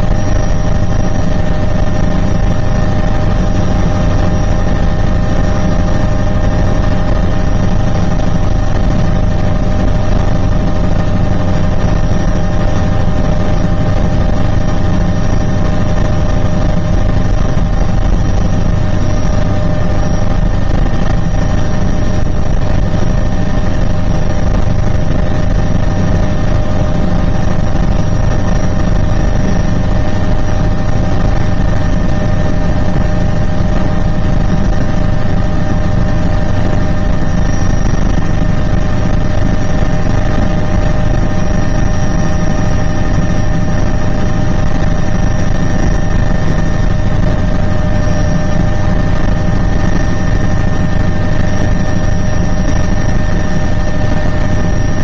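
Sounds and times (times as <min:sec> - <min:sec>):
helicopter engine and rotor drone: 0:00.0 - 0:55.0.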